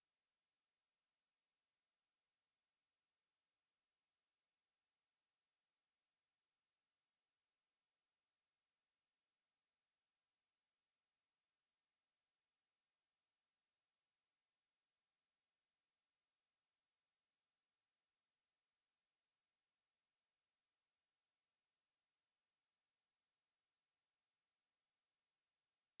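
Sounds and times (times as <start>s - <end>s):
high-pitched sine-wave test tone: 0.0s - 26.0s.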